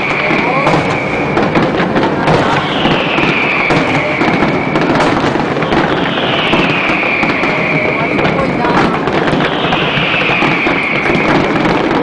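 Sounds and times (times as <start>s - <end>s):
descending firework whistle: 0.0s - 12.0s
fireworks bursting and crackling: 0.0s - 12.0s.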